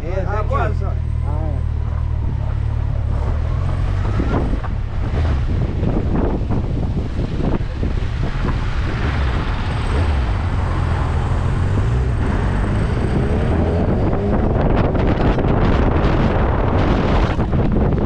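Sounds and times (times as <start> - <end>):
wind noise on microphone: 1.8 - 18.0.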